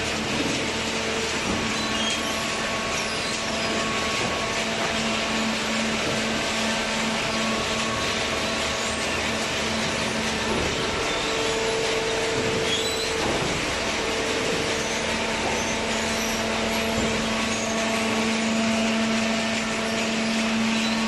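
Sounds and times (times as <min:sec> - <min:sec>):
baler mechanical hum: 0:00.0 - 0:21.0.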